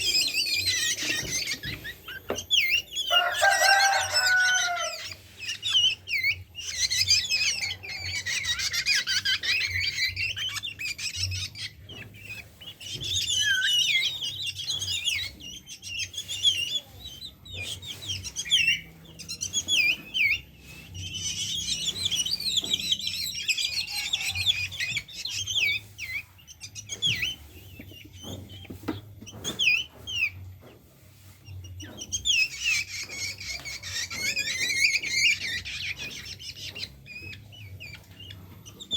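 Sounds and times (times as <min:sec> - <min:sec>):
bird chirping rapidly: 0:00.0 - 0:30.4, 0:31.2 - 0:38.9.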